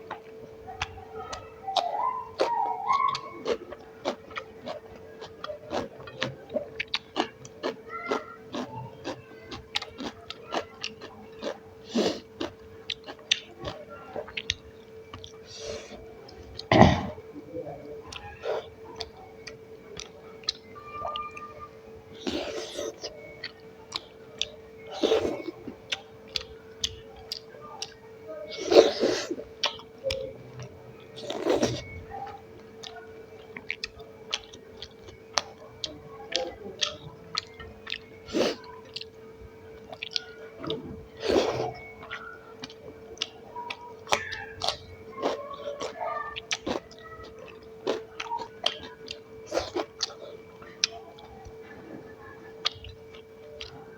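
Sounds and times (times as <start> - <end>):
faint steady hum: 0.0 - 53.9
person chewing: 0.1 - 17.2, 18.1 - 21.5, 22.1 - 53.9.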